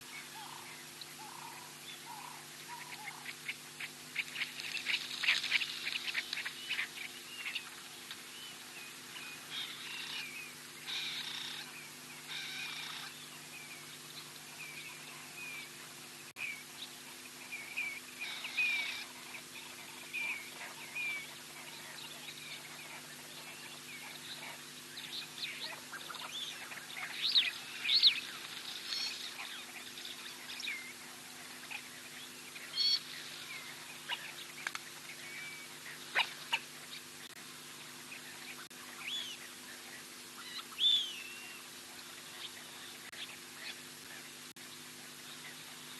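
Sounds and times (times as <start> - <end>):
birds chirping and trilling: 0.0 - 45.9
steady low hum: 0.0 - 45.9.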